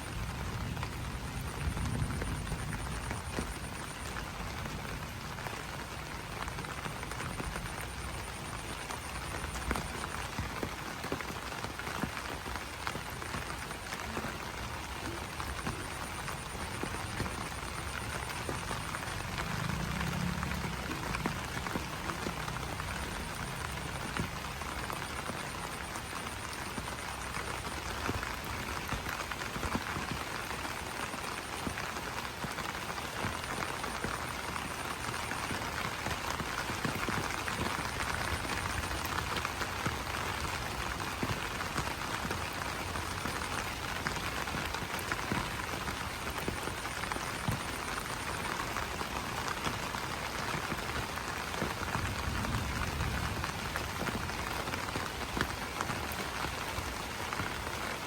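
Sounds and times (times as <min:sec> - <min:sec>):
rain on leaves: 0:00.0 - 0:58.0.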